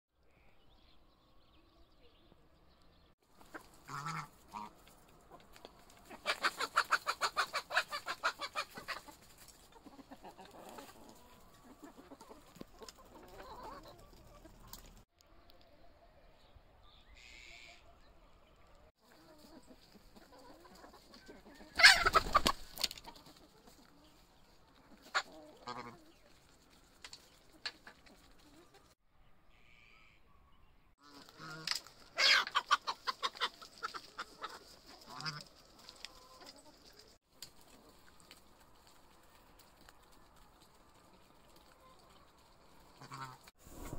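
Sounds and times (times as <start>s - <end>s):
chickens clucking: 3.3s - 16.1s, 17.4s - 29.0s, 31.0s - 43.9s.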